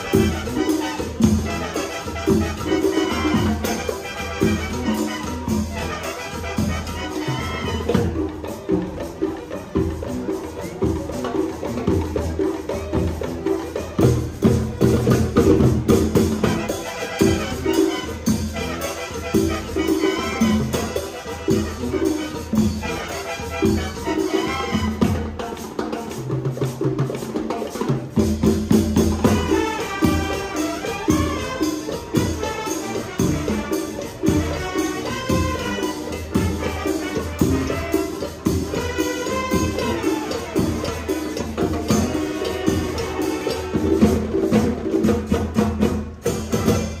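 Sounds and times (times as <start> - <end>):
driving percussion beat: 0.0 - 47.0
latin band music: 0.0 - 47.0.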